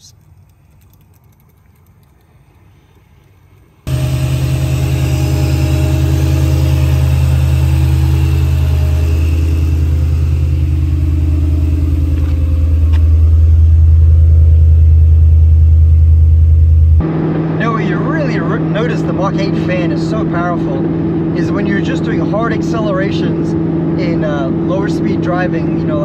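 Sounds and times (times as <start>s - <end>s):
car engine idling: 3.9s - 26.0s.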